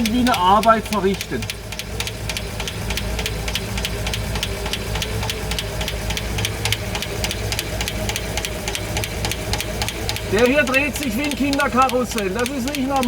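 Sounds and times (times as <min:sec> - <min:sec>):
engine idling hum: 0:00.0 - 0:13.0
engine valvetrain ticking: 0:00.0 - 0:13.0.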